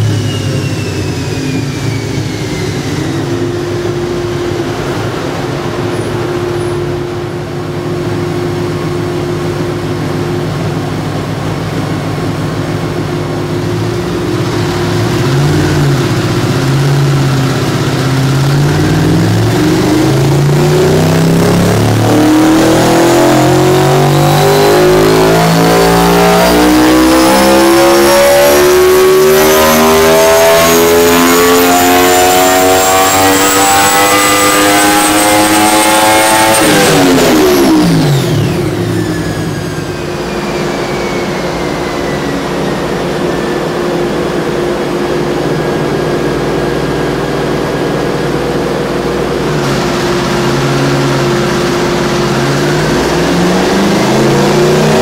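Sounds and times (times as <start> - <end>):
motorcycle engine revving on dyno: 0.0 - 55.0.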